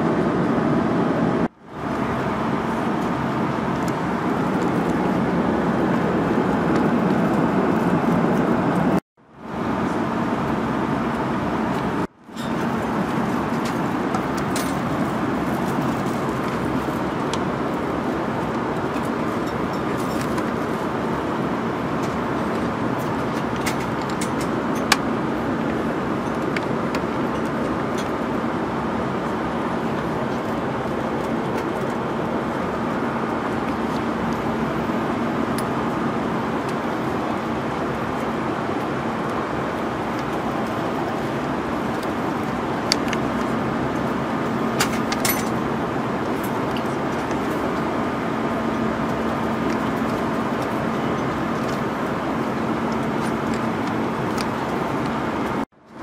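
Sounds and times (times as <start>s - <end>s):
airflow and engine roar: 0.0s - 56.0s.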